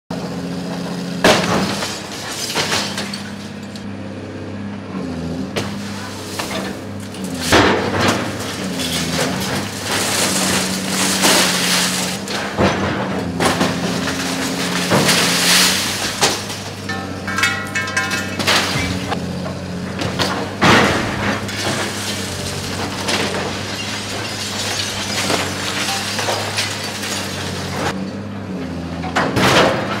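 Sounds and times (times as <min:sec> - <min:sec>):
excavator diesel engine running: 0:00.1 - 0:30.0
glass and building material crashing: 0:01.2 - 0:03.8, 0:05.6 - 0:19.2, 0:19.9 - 0:28.0, 0:29.0 - 0:30.0.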